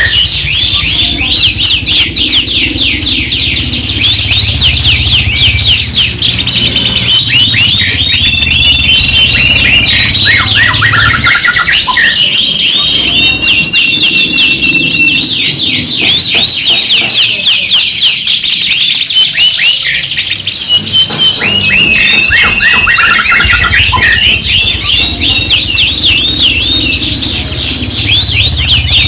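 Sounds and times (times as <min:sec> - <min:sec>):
canaries singing: 0:00.0 - 0:29.0.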